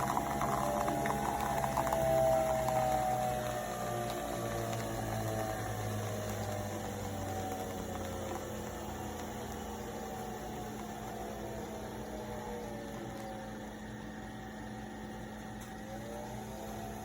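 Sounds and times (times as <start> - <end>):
coffee machine humming and whining: 0.0 - 17.0.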